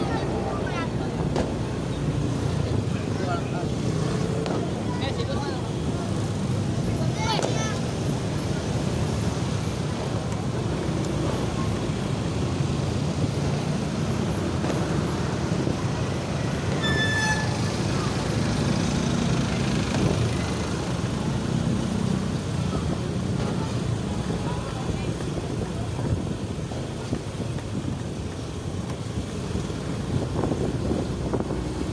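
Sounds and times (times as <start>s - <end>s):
motorbike and street traffic: 0.0s - 31.9s.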